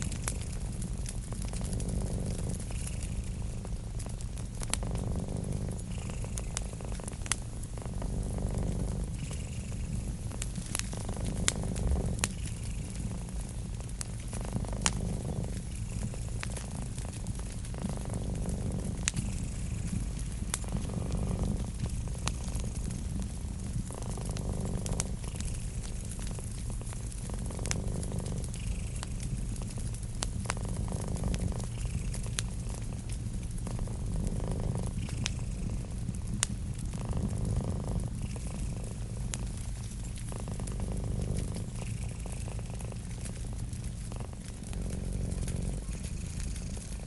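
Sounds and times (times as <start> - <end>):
cat purring: 0.0 - 47.0
wood fire crackling: 0.0 - 47.0.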